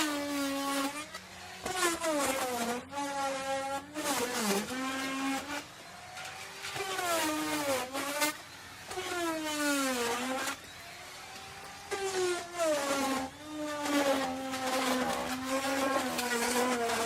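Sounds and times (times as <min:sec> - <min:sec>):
wood router cutting wood: 0:00.0 - 0:17.0.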